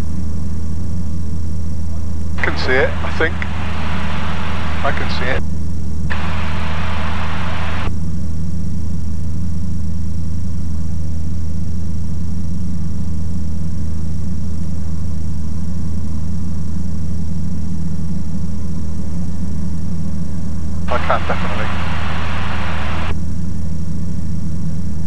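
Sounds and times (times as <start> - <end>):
light aircraft engine drone: 0.0 - 25.0.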